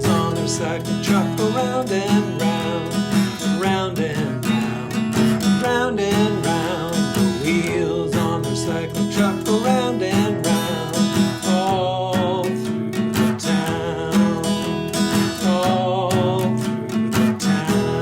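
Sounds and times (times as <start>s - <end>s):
person singing: 0.0s - 18.0s
strummed acoustic guitar: 0.0s - 18.0s.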